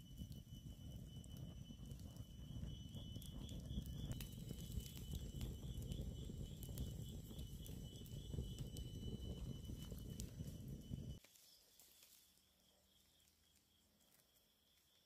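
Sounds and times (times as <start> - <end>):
wood fire crackling: 0.0 - 12.2.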